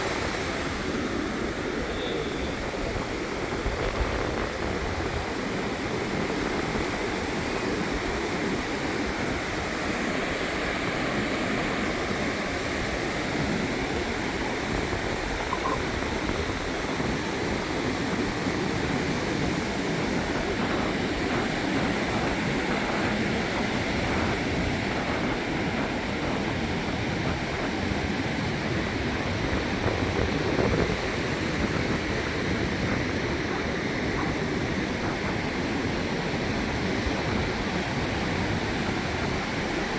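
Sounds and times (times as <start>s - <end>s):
waves washing onto beach: 0.0s - 39.9s.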